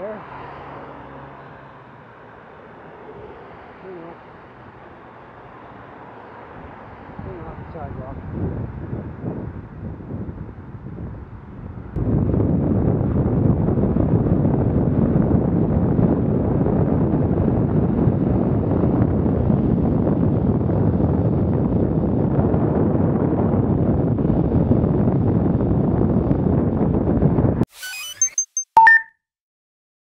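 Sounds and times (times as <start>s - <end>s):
low road rumble: 0.0s - 27.7s
wind rushing over microphone: 0.0s - 27.7s.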